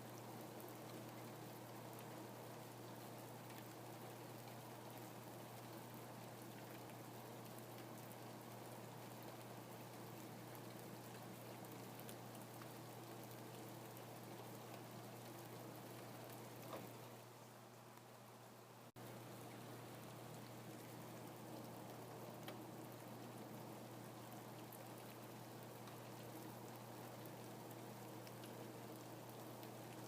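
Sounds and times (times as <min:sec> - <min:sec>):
faint rain ticking: 0:00.0 - 0:30.0.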